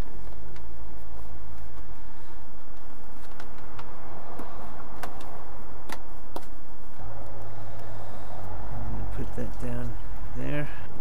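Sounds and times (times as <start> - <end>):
cable rustling: 0.0 - 10.3.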